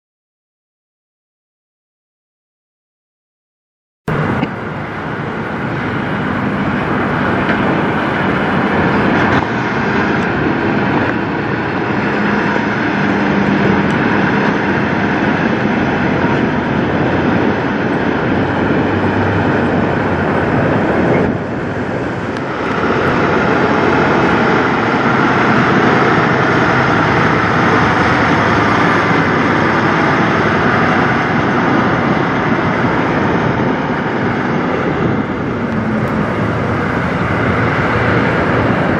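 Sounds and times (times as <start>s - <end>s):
diesel truck engines: 4.1s - 38.9s
tyre and road noise: 4.1s - 38.9s.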